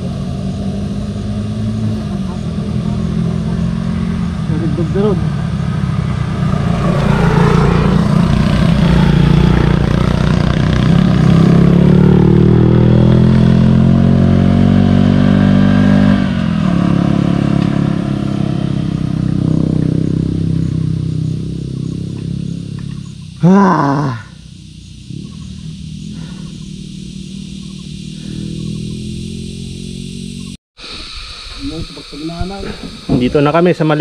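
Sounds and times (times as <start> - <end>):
vehicle engine pulling away: 0.0 - 30.6.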